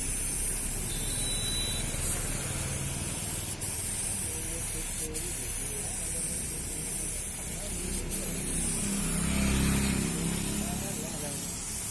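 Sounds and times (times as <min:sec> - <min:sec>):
loud hiss of escaping air: 0:00.0 - 0:11.9.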